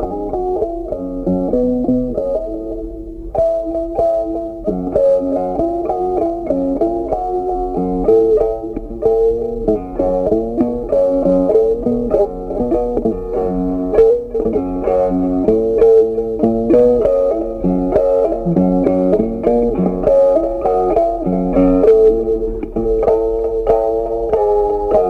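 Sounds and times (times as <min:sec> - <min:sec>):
plucked instrumental music: 0:00.0 - 0:25.0.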